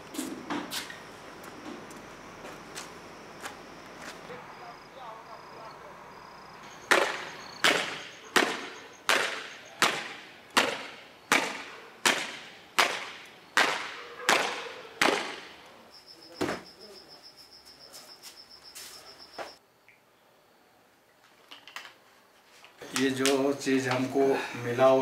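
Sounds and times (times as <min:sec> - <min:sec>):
crickets trilling: 0:00.0 - 0:11.3, 0:14.6 - 0:25.0.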